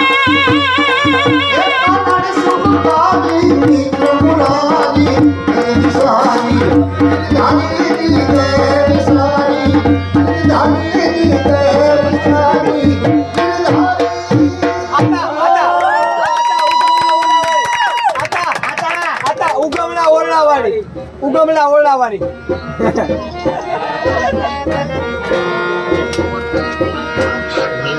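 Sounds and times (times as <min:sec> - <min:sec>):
reed pipe melody: 0:00.0 - 0:15.4, 0:20.8 - 0:27.9
dhol drumming: 0:00.0 - 0:15.5, 0:18.4 - 0:27.9.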